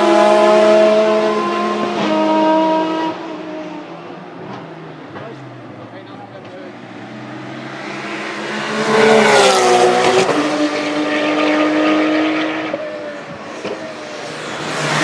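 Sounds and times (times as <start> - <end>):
race car engine passing: 0.0 - 15.0.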